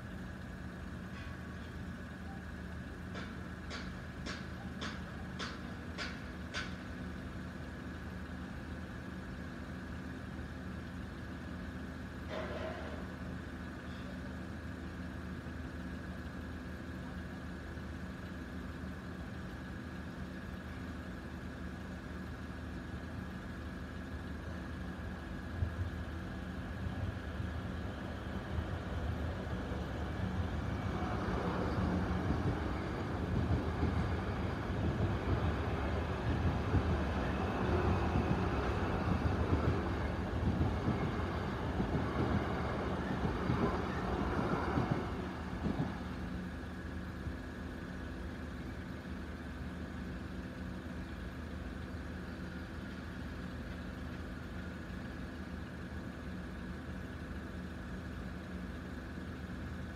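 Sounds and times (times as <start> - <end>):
idling traffic engine hum: 0.0 - 59.9
passenger train rumble: 0.0 - 59.9.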